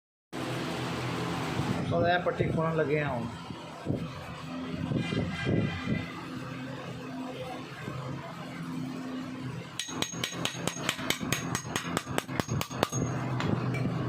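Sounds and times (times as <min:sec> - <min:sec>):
steady low hum: 0:00.4 - 0:14.0.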